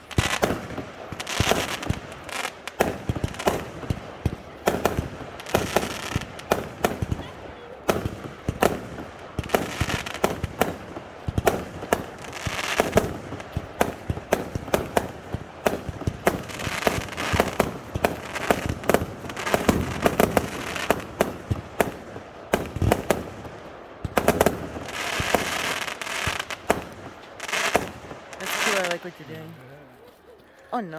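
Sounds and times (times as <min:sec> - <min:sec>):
fireworks bangs and pops: 0:00.0 - 0:29.6
fireworks crackling and hissing: 0:00.0 - 0:30.9.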